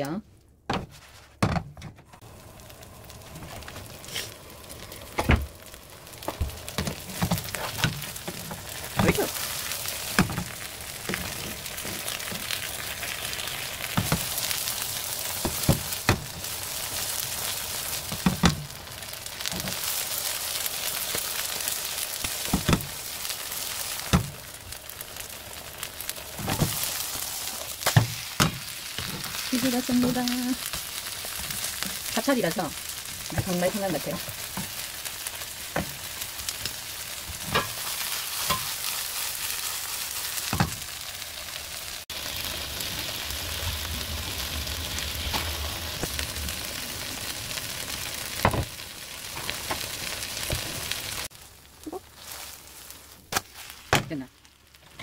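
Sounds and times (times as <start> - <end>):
batter sizzling in oil: 2.2 - 55.0.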